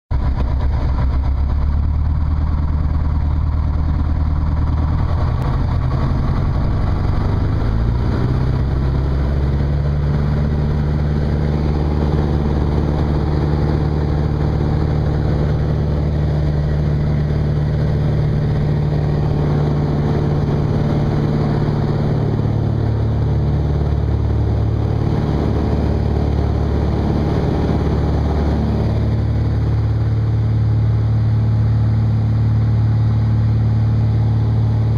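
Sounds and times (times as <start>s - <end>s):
light aircraft engine and propeller: 0.1s - 34.9s.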